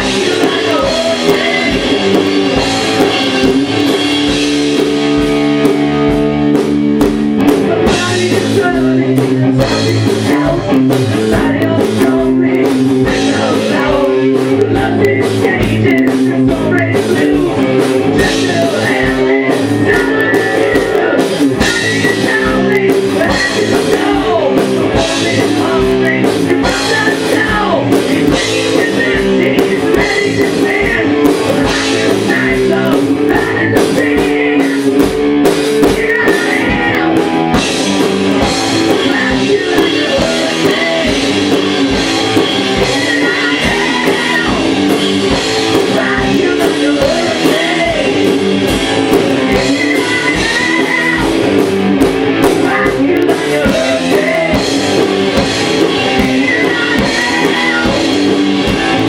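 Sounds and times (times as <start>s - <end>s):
drum kit steady beat: 0.0s - 59.0s
electric guitar: 0.0s - 59.0s.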